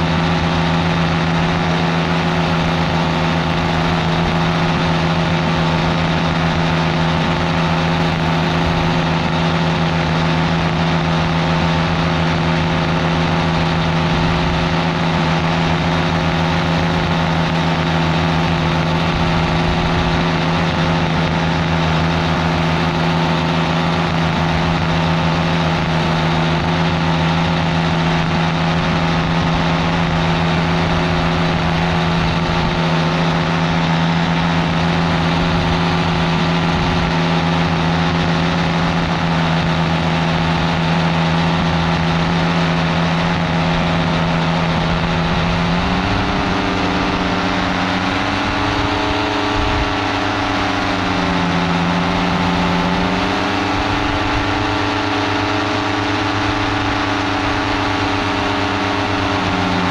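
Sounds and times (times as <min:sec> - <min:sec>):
paramotor engine drone: 0:00.0 - 0:59.9
rushing air: 0:00.0 - 0:59.9.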